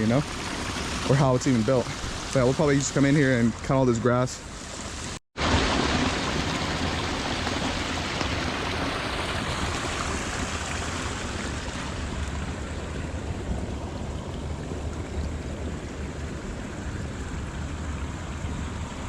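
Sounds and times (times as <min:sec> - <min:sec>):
water rushing over dam: 0:00.0 - 0:19.0.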